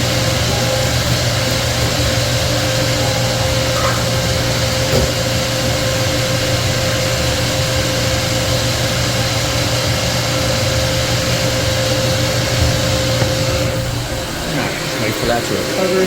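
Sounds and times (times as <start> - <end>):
refrigerant recovery machine running: 0.0 - 16.0.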